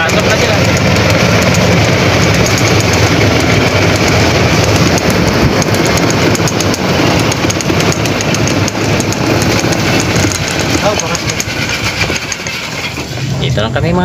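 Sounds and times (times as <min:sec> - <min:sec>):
golf cart engine running: 0:00.0 - 0:13.6.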